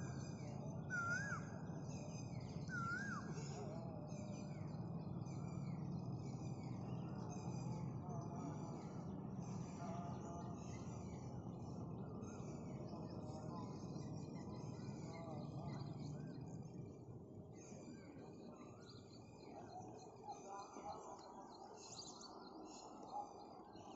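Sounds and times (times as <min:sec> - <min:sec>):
birds chirping: 0:00.0 - 0:23.9.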